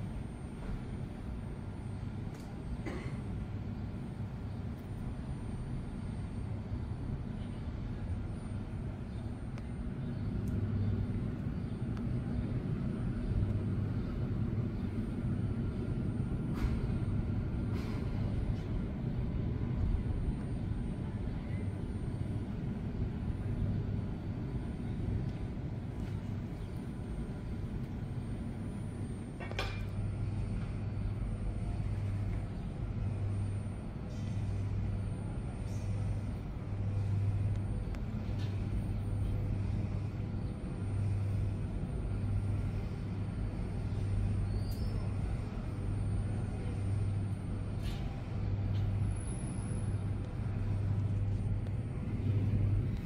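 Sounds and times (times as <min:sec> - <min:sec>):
subway train low hum and rumble: 0:00.0 - 0:53.0.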